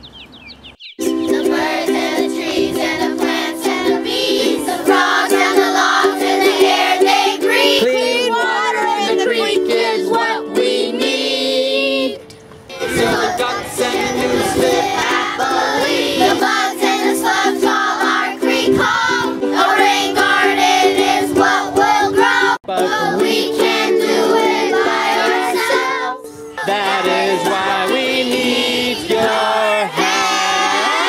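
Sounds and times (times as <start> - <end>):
children singing: 1.0 - 31.0
instrumental accompaniment: 1.0 - 31.0.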